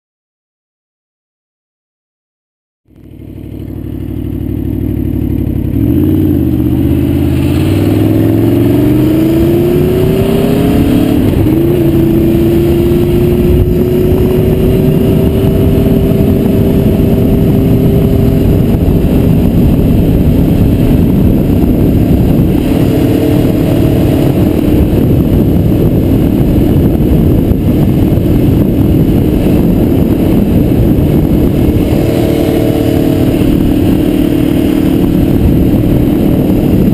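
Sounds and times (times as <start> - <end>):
motorcycle engine revving: 2.9 - 36.9
wind noise rushing: 5.8 - 36.9.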